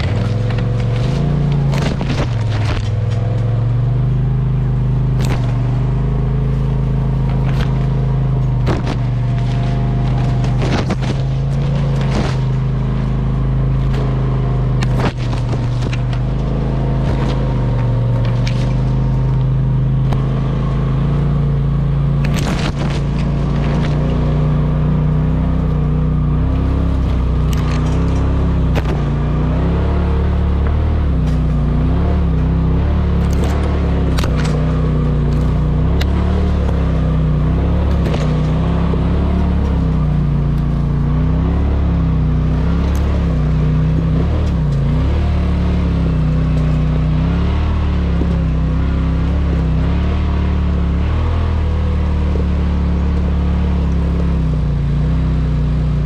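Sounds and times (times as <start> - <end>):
knocks and scrapes on rough trail: 0.0 - 56.0
off-road vehicle engine running: 0.0 - 56.0.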